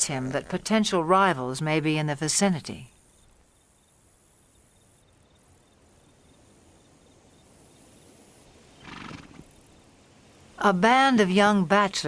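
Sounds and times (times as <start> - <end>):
low background hiss: 0.0 - 12.0
faint insect chirping: 0.1 - 10.9.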